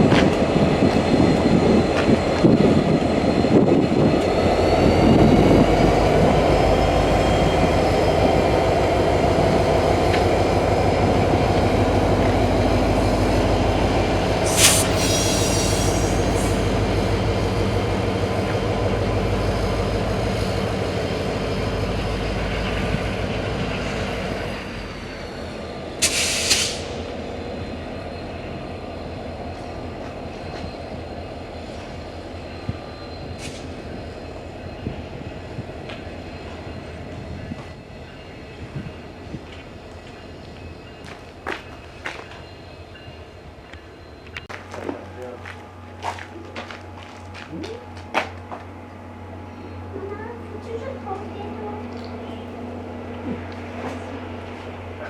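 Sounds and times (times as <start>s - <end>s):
train wheels rumbling on rail: 0.0s - 55.0s
train wheels squealing: 1.1s - 44.6s, 49.2s - 50.2s.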